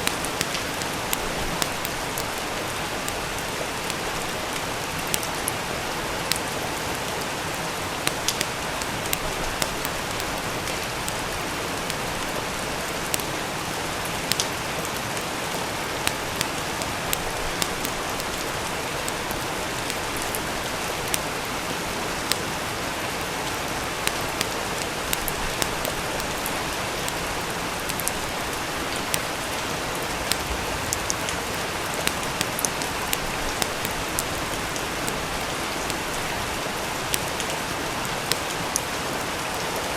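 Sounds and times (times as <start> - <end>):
rain hissing: 0.0 - 39.9
wood fire crackling: 0.0 - 39.9.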